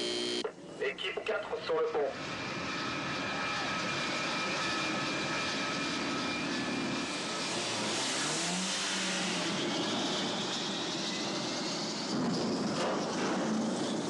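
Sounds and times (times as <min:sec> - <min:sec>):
rising whine: 0:00.0 - 0:00.5, 0:02.1 - 0:14.0
jet engines running: 0:00.0 - 0:14.0.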